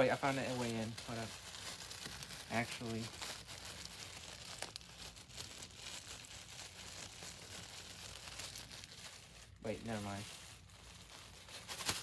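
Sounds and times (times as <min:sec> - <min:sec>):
packaging bag crinkling and tearing: 0:00.0 - 0:12.0.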